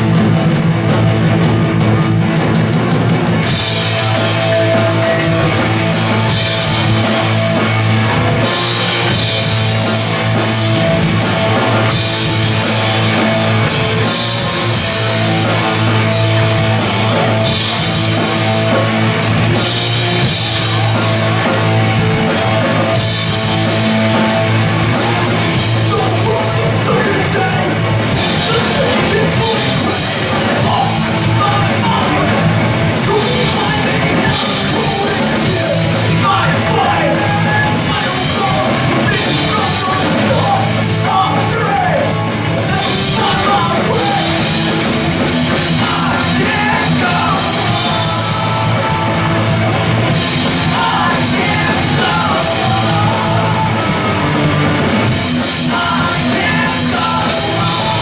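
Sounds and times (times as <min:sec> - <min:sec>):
bass guitar: 0:00.0 - 0:58.0
drum kit: 0:00.0 - 0:58.0
electric guitar: 0:00.0 - 0:58.0
person singing and yelling: 0:03.5 - 0:58.0.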